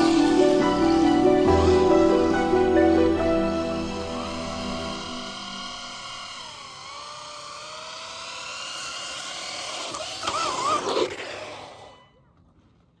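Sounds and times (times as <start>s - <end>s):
electric motor whining: 0.0s - 12.1s.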